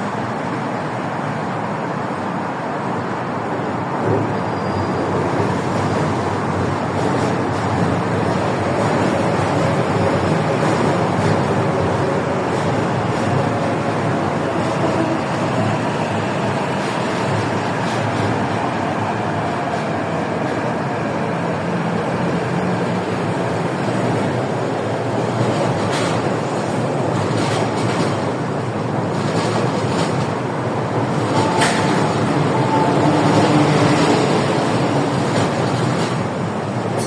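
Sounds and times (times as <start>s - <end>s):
train rumbling through station: 0.0s - 37.0s.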